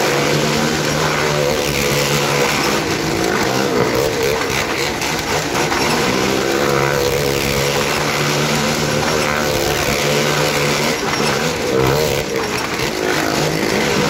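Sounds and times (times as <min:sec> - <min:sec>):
motorcycle and car engines revving: 0:00.0 - 0:14.0.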